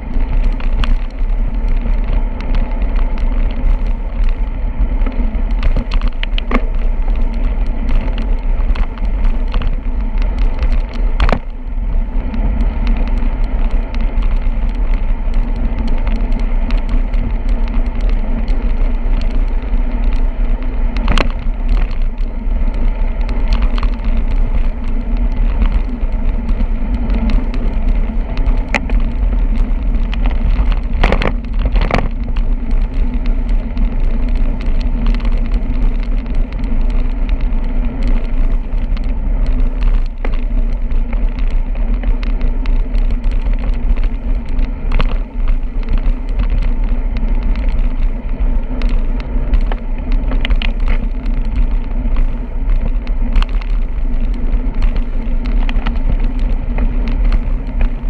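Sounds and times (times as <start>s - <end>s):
bicycle clicks and rattles: 0.0s - 58.0s
wind rumble and road noise: 0.0s - 58.0s.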